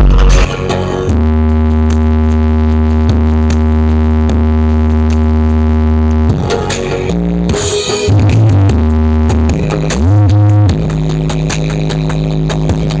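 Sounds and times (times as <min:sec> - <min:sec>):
loud electronic dance music: 0:00.0 - 0:13.0.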